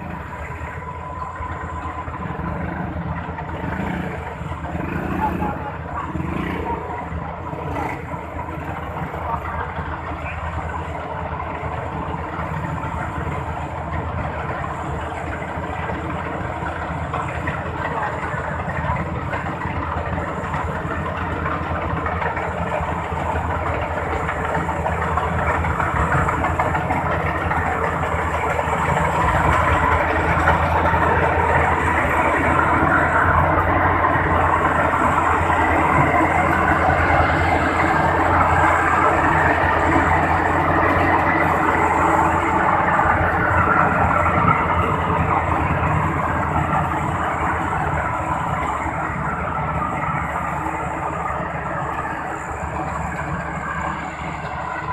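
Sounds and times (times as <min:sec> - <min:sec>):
combine harvester engine drone: 0:00.0 - 0:54.9.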